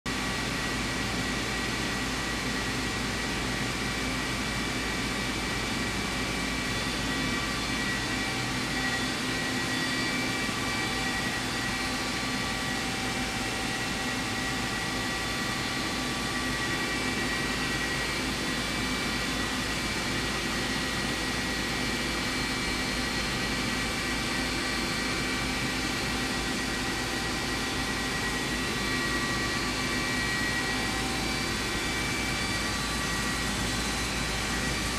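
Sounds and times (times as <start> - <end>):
machine whining tones: 5.5 - 34.9
lathe machine hum: 6.2 - 34.9.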